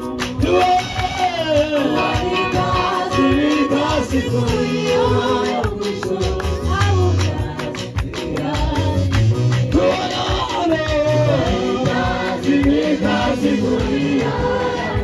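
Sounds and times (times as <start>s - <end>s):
gospel music with singing voices: 0.0s - 15.0s.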